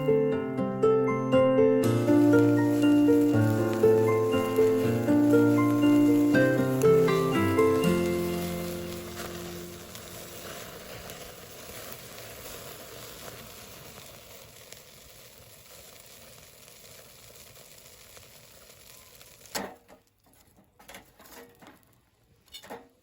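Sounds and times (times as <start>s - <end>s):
meat sizzling over charcoal: 1.8s - 22.4s.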